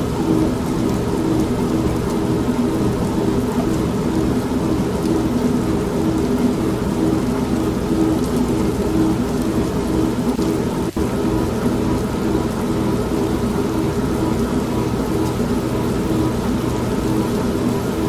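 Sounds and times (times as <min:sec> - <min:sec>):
rain: 0:00.0 - 0:18.0
washing machine humming: 0:00.0 - 0:18.0.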